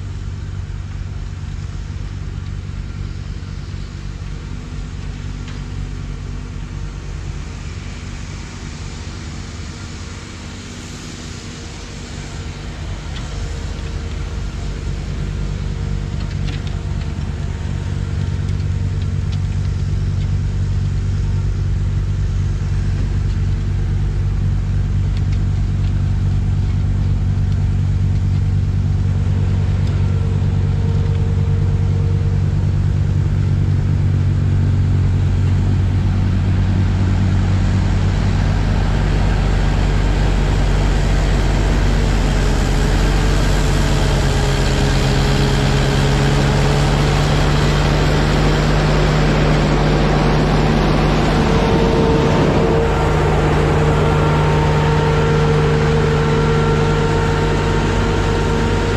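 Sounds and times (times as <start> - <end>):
snowblower rushing: 0.0 - 58.9
tractor engine running under load: 0.0 - 58.9.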